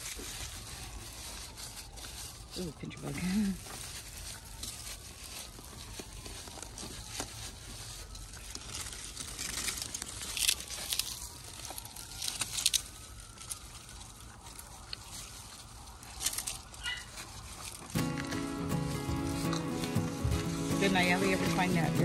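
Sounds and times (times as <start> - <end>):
plant material rustling: 0.0 - 22.0.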